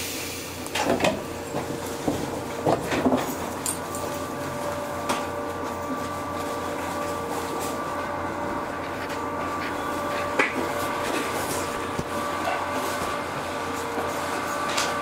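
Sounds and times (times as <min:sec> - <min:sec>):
electric train humming and whining: 0:00.0 - 0:15.0.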